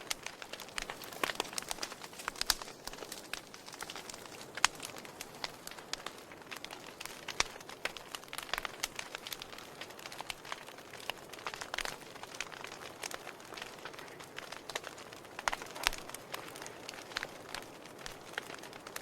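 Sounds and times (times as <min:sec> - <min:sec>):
fire pops and snaps: 0:00.0 - 0:19.0
soft steady hiss: 0:00.0 - 0:19.0
wood fire crackling: 0:00.0 - 0:19.0.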